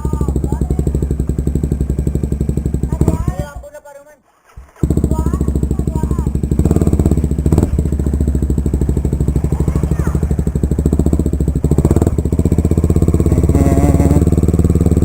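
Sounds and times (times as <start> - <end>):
motorcycle engine running: 0.0 - 3.7, 4.6 - 15.0.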